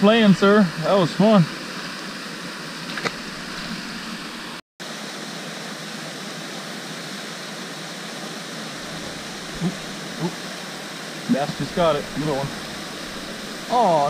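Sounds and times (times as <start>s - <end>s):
fountains spraying water: 0.0s - 14.0s.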